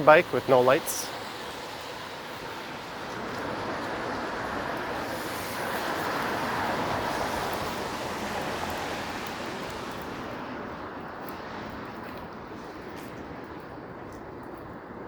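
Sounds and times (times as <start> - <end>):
car tyres hissing on wet road: 0.0 - 12.7.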